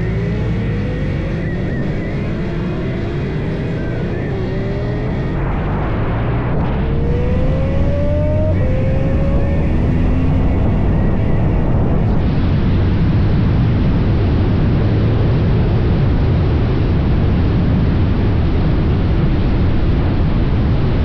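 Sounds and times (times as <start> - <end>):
motorcycle engine accelerating: 0.0 - 20.7
wind noise: 0.0 - 21.0.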